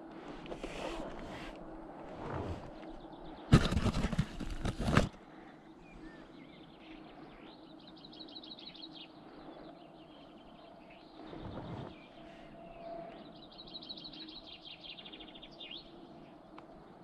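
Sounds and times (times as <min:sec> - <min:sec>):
small birds chirping: 0:00.7 - 0:17.0.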